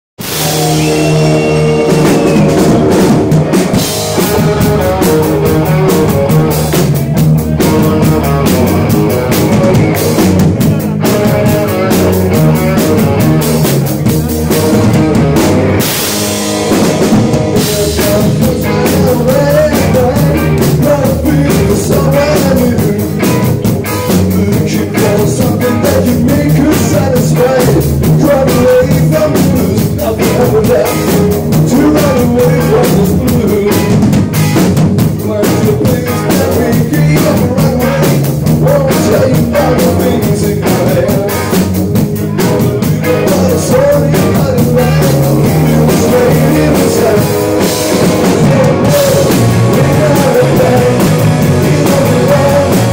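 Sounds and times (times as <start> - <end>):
bass guitar: 0.2 - 52.9
drum kit: 0.2 - 52.9
electric guitars: 0.2 - 52.9.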